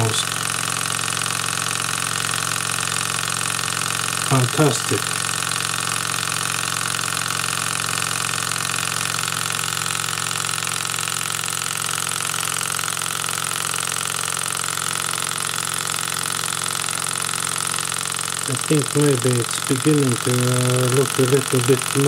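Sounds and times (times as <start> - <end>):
hot-air engine running: 0.0 - 11.7, 14.2 - 22.0.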